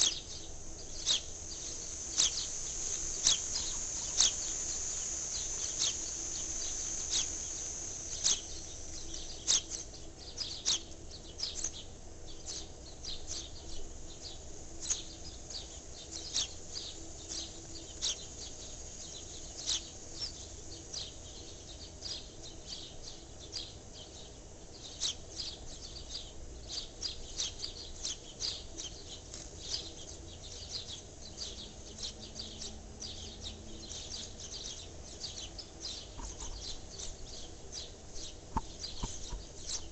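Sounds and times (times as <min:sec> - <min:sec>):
faint background hum: 0:00.0 - 0:39.9
small birds chirping: 0:00.0 - 0:39.9.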